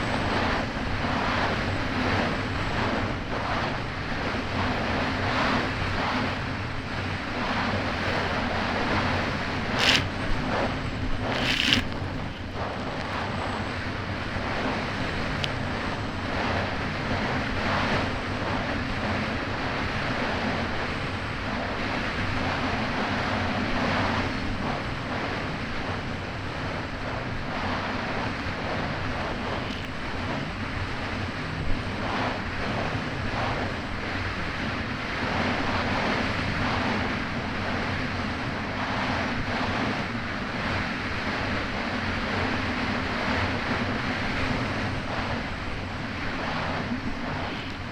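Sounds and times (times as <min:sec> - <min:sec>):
jet ski engine running: 0:00.0 - 0:47.9
wind buffeting microphone: 0:00.0 - 0:47.9.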